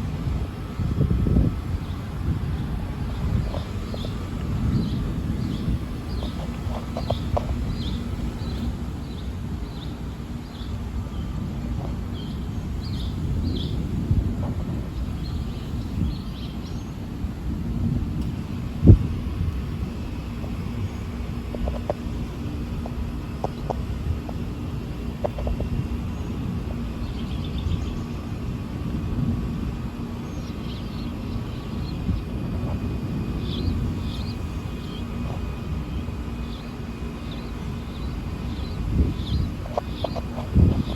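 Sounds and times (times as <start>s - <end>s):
thunder rumble: 0.0s - 40.9s.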